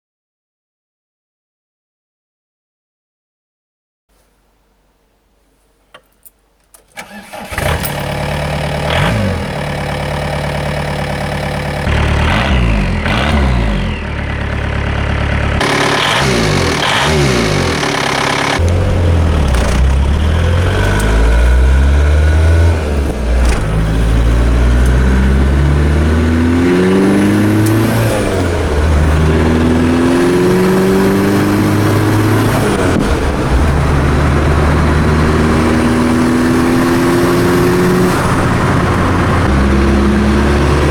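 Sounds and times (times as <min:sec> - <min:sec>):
diesel engine starting and revving: 0:07.0 - 0:40.9.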